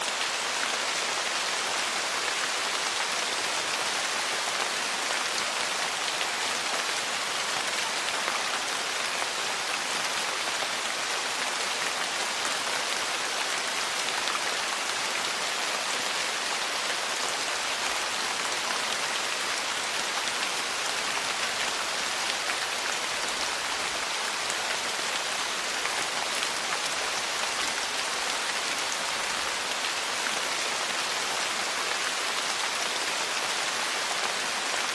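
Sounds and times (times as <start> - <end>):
heavy rain on a roof: 0.0 - 34.9.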